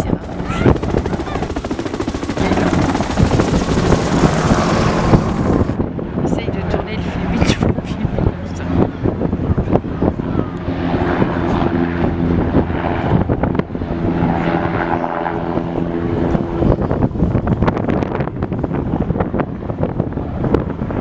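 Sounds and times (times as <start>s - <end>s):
propeller aircraft engine droning: 0.0s - 21.0s
wind buffeting microphone: 0.0s - 21.0s.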